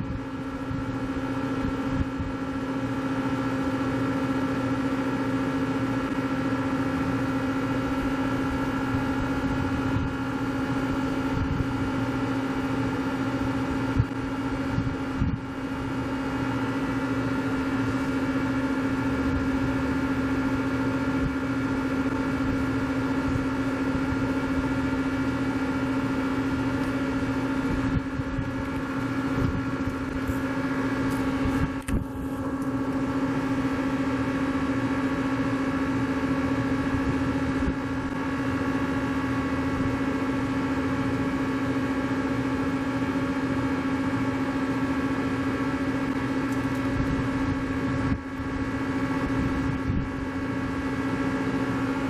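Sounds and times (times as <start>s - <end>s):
lathe machine hum: 0.0s - 52.0s.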